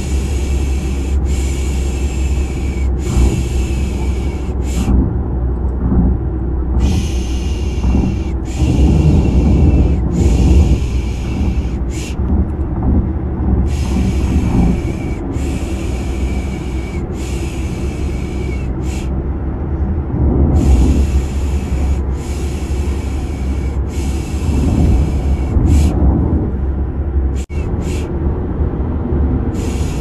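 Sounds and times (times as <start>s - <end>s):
low car rumble: 0.0s - 30.0s.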